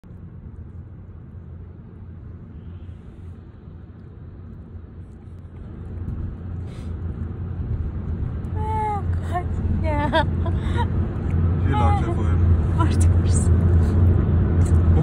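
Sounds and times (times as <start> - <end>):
car road rumble inside cabin: 0.0 - 15.0.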